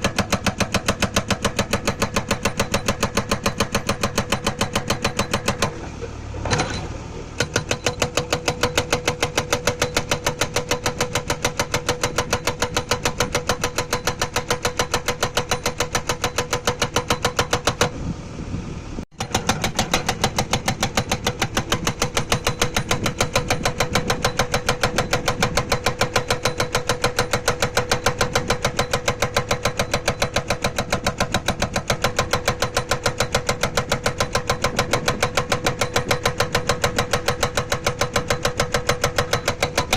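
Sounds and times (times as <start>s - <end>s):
hydraulic breaker hammering stone: 0.0s - 18.0s, 19.1s - 39.9s.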